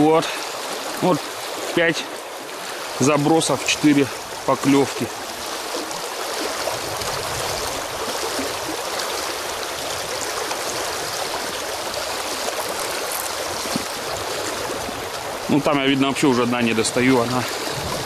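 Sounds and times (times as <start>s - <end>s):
river water rushing over stones: 0.0s - 18.0s.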